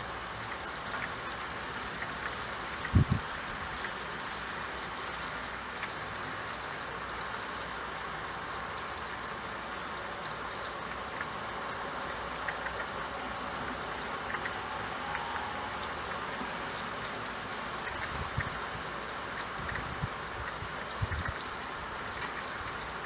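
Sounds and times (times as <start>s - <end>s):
steady rain falling: 0.0s - 23.0s
water drips: 0.2s - 23.0s.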